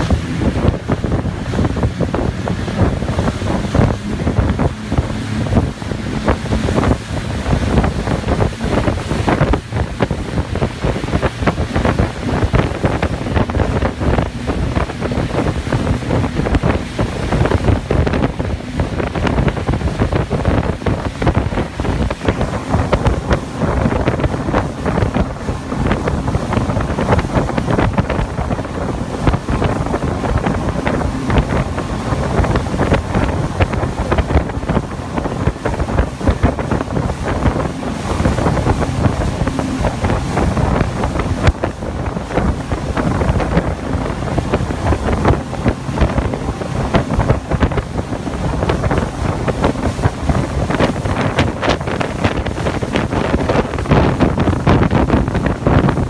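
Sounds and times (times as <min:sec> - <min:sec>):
churning wake: 0:00.0 - 0:56.0
speedboat engine rushing: 0:00.0 - 0:56.0
wind buffeting microphone: 0:00.0 - 0:56.0.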